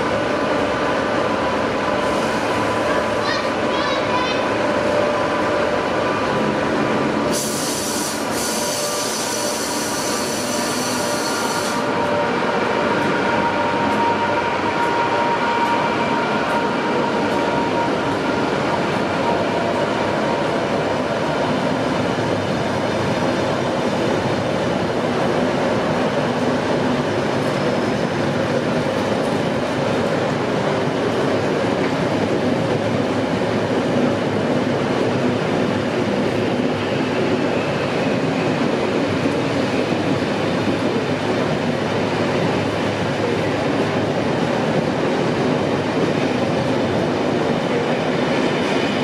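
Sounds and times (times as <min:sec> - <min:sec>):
train wheels on rails: 0:00.0 - 0:49.0.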